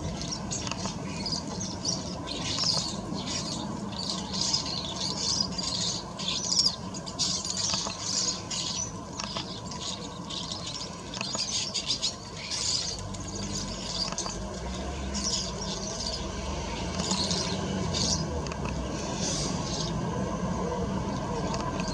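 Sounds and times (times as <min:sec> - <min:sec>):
small birds chirping and twittering: 0:00.0 - 0:21.9.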